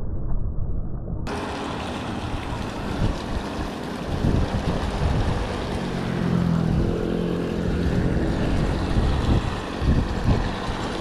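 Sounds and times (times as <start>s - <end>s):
engine hum: 1.3s - 11.0s
water pouring into pool: 1.3s - 11.0s
wind buffeting microphone: 2.1s - 11.0s.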